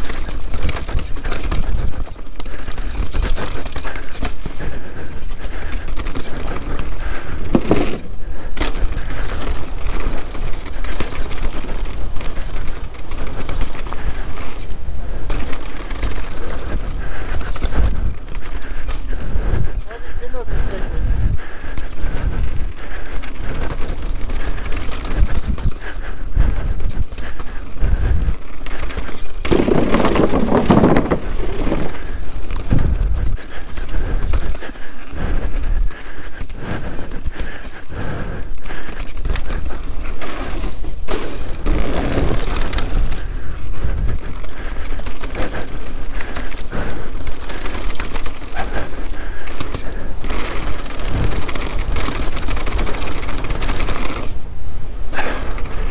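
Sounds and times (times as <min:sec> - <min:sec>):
mountain bike rattling over rocks: 0:00.0 - 0:55.9.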